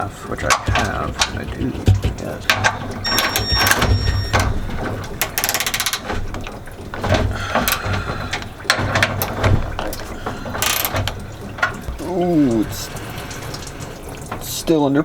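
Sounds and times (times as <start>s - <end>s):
metal knocks: 0.0s - 14.6s.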